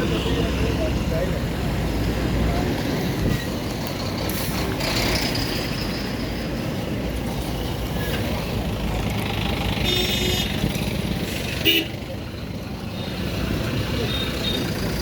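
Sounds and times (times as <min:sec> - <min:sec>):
heavy road traffic rumble: 0:00.0 - 0:15.0.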